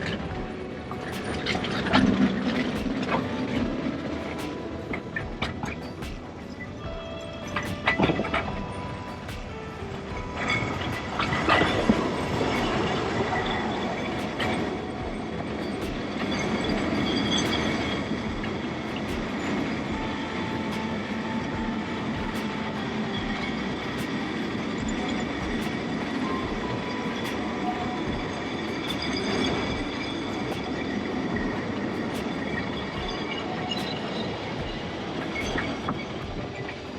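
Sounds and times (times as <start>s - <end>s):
tram clicks: 0.0s - 36.9s.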